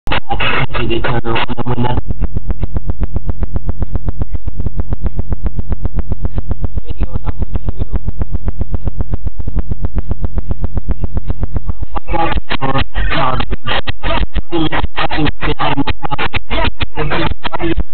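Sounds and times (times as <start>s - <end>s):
loud subwoofer bass music: 0.1s - 17.9s.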